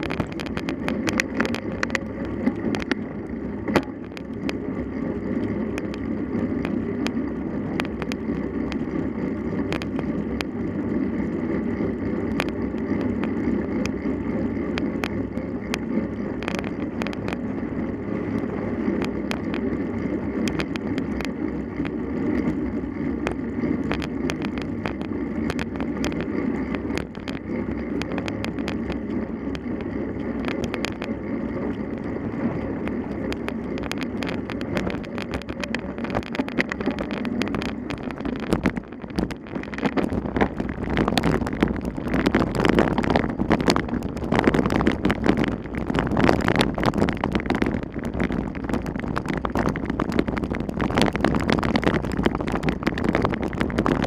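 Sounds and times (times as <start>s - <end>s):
bicycle rattles and clicks: 0.0s - 54.0s
bicycle tyres and wind rumble: 0.0s - 54.0s.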